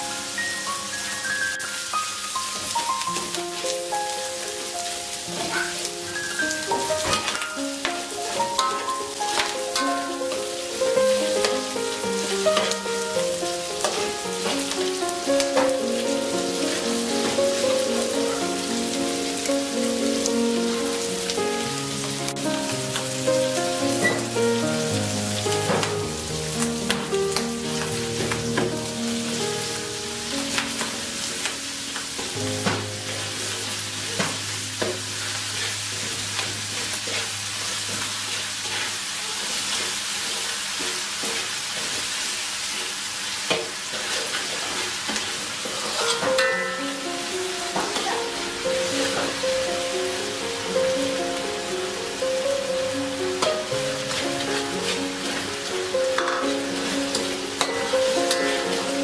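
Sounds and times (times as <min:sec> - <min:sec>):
background music: 0:00.0 - 0:35.6, 0:46.3 - 0:59.0
oil sizzling in a wok: 0:00.0 - 0:59.0.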